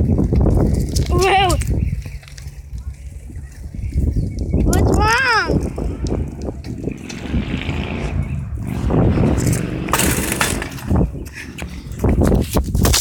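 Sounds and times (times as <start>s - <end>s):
rumbling handling noise: 0.0s - 13.0s
wind buffeting microphone: 0.0s - 13.0s.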